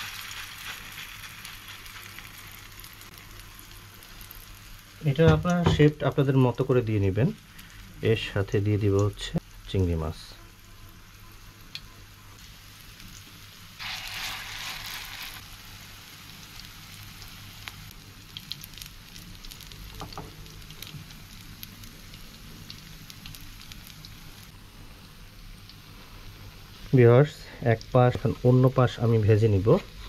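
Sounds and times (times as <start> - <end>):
fritters sizzling in hot oil: 0.0 - 9.7, 11.1 - 30.0.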